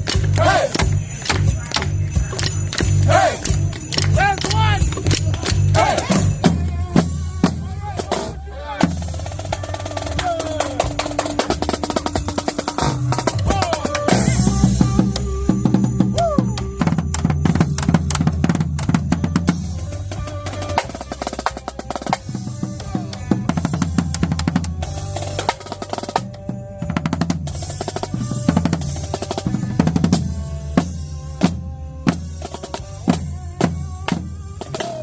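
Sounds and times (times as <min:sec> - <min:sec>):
drums and snare rolls: 0:00.0 - 0:35.0.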